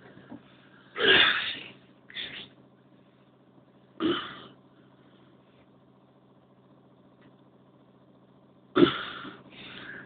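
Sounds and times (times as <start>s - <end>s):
faint low engine hum: 0.0s - 10.0s.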